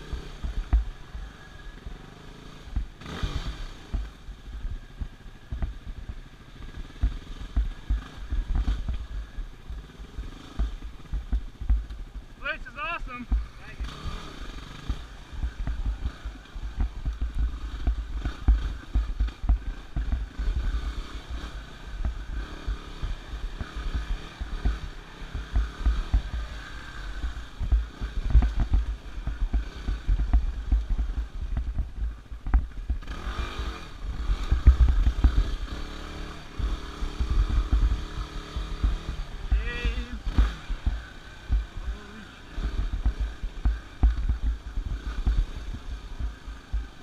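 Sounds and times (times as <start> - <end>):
dirt bike engine running: 0.0 - 47.0.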